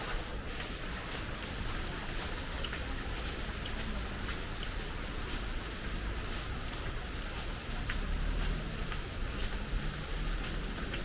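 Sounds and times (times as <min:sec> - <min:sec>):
steady rainfall hissing: 0:00.0 - 0:11.0.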